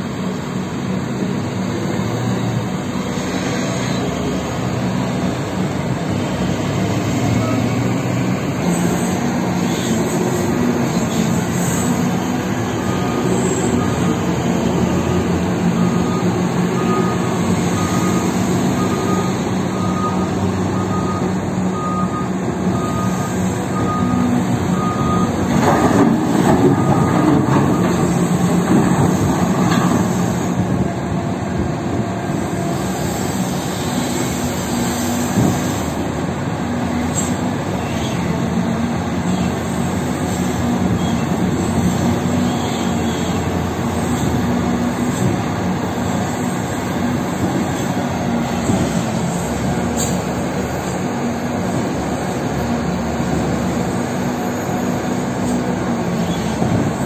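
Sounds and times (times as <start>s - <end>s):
heavy machine engines running: 0.0s - 57.0s.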